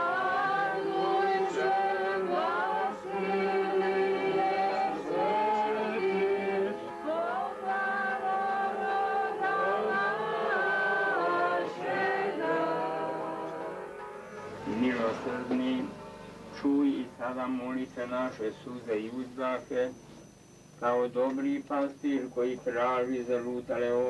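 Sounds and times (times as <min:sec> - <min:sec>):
voices chanting slow melody: 0:00.0 - 0:19.5.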